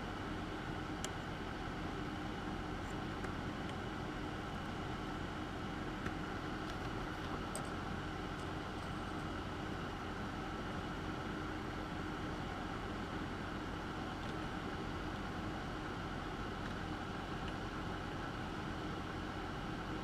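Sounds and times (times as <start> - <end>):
fume extractor fan whirring: 0.0 - 20.0.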